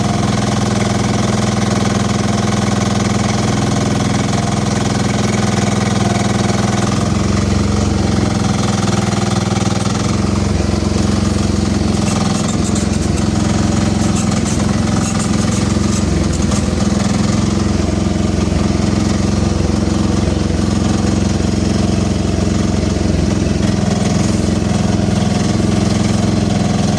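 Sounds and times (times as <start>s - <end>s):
small engine running: 0.0s - 26.9s.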